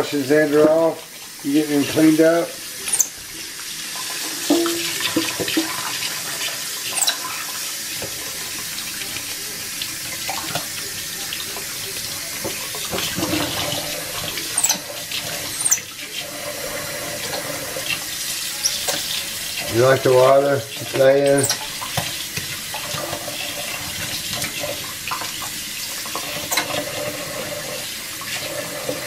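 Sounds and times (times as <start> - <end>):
faucet water running into sink: 0.0 - 29.0.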